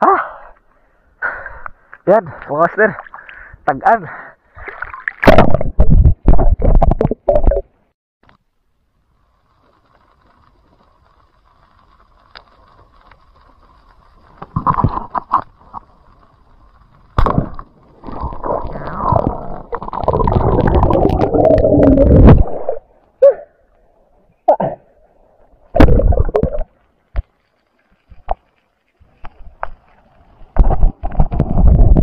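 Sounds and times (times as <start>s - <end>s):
underwater gurgling and rushing: 4.4s - 7.9s, 8.8s - 32.0s.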